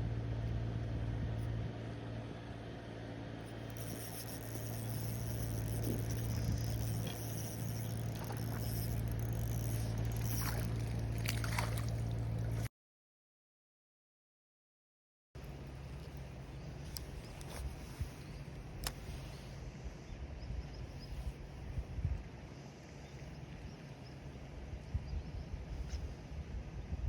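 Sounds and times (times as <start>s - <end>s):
low mechanical hum: 0.0s - 12.7s, 15.4s - 27.0s.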